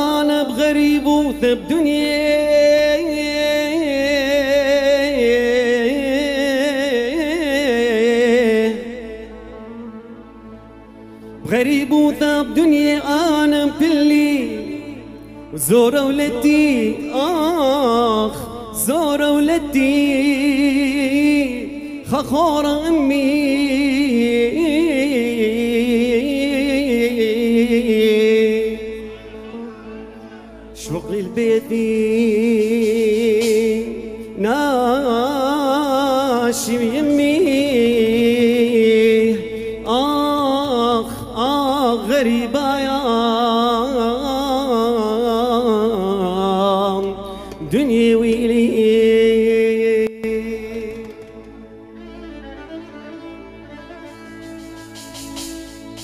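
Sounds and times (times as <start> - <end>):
man singing with vibrato: 0.0 - 10.3, 11.3 - 52.0.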